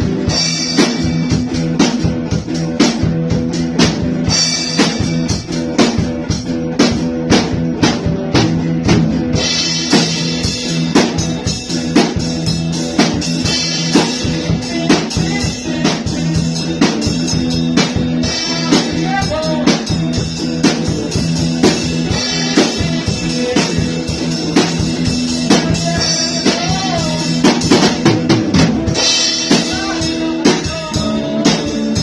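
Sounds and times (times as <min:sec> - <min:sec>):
drum kit steady beat: 0:00.0 - 0:32.0
strummed guitar chords: 0:00.0 - 0:32.0.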